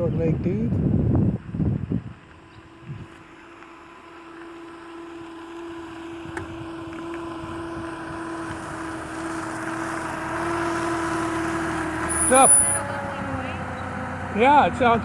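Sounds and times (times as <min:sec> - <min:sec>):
road noise: 0:00.0 - 0:15.0
vehicle engine approaching: 0:00.2 - 0:15.0.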